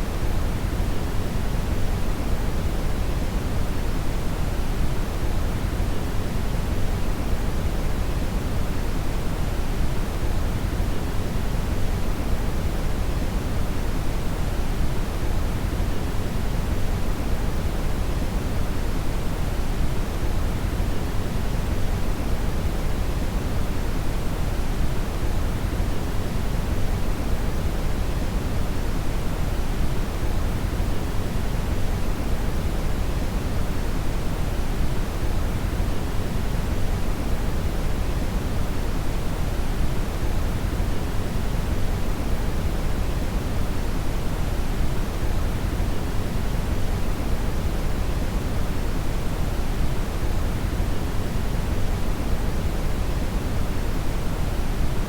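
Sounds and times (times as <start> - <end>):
brown noise hiss: 0.0 - 55.0.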